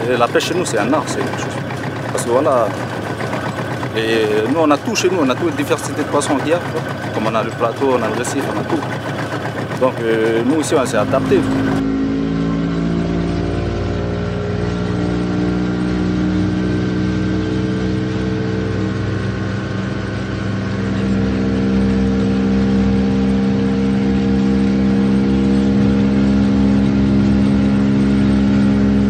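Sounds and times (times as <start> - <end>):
outboard motor droning: 0.0 - 29.0.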